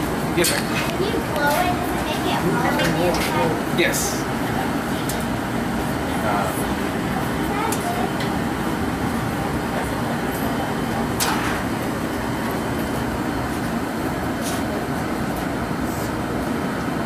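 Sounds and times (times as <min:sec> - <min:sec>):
gas burner and blower running: 0:00.0 - 0:17.0.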